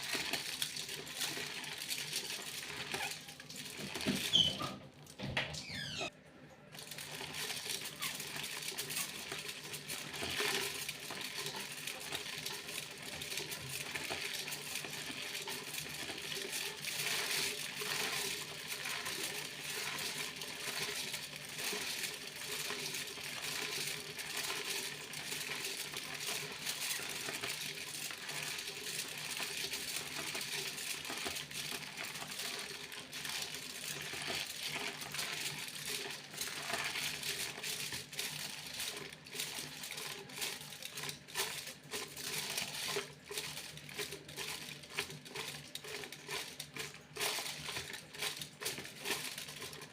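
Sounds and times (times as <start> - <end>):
foil crinkling: 0.0 - 4.6, 6.8 - 49.9.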